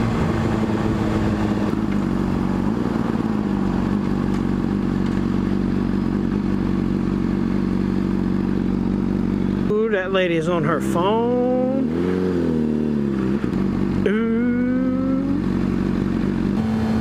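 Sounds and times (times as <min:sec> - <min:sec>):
motorcycle engine slowing to idle: 0:00.0 - 0:11.7, 0:12.6 - 0:17.0.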